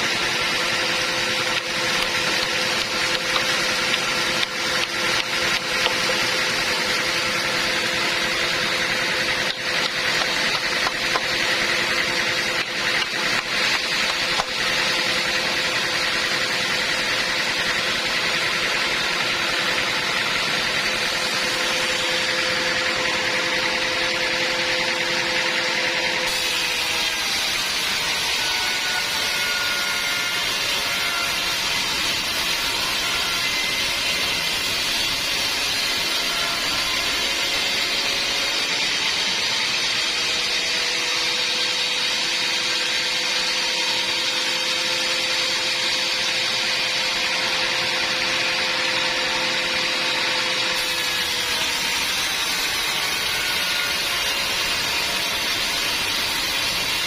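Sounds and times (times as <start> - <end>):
band saw running: 0.0 - 57.0.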